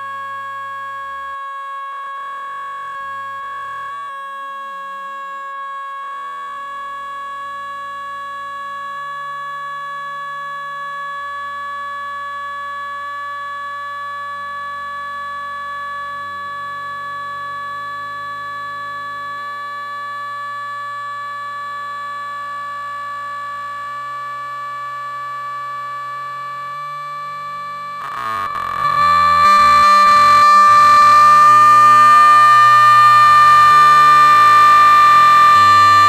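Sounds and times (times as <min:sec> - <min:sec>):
high siren-like synthesizer tones: 0:00.0 - 0:36.0.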